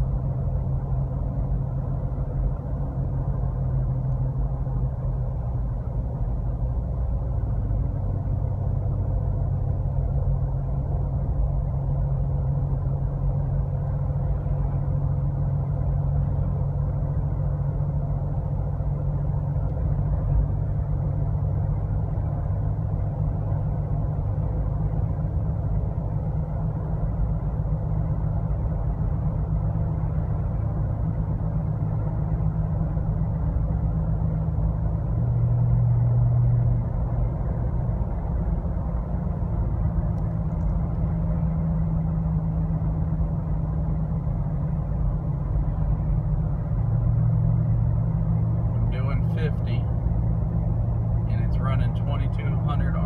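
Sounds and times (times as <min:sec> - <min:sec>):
car engine and road drone: 0:00.0 - 0:53.0
low hum: 0:00.0 - 0:53.0.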